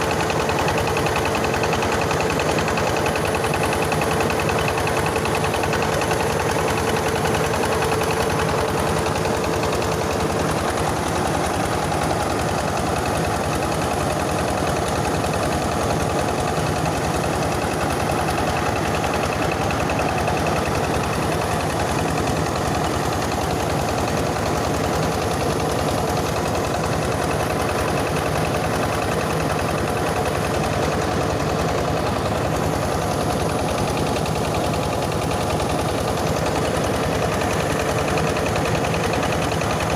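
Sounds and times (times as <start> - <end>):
mill machinery noise: 0.0 - 39.9.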